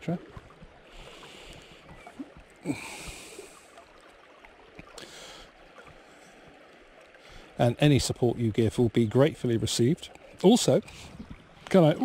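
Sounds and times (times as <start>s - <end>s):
river water lapping: 0.0s - 12.0s
water rushing: 0.0s - 12.0s.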